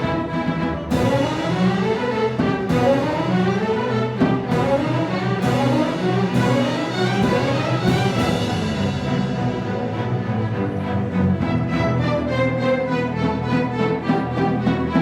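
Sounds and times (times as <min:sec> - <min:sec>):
orchestra with bowed strings: 0:00.0 - 0:15.0.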